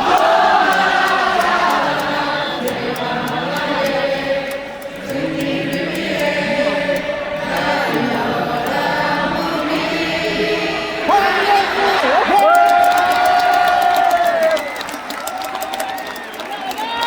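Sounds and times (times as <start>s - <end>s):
crowd singing a chant: 0.0s - 14.2s.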